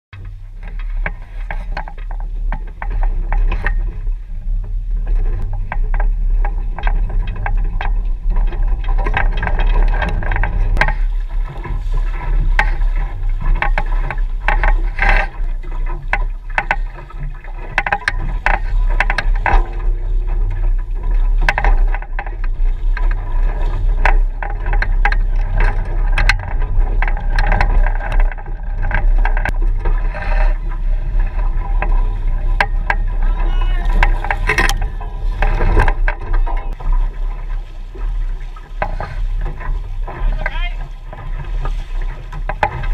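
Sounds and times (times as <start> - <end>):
water washing along hull: 0.1 - 42.9
wind rumbling on microphone: 0.1 - 42.9
rigging knocks and rattles: 0.2 - 42.9.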